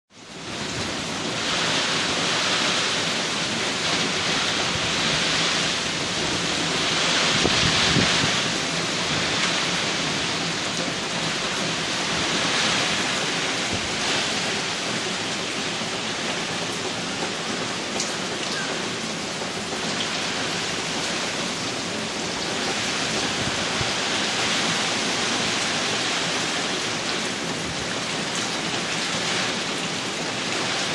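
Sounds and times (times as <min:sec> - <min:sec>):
heavy rain beating on house: 0:00.1 - 0:30.9
strong wind gusts: 0:00.3 - 0:30.9.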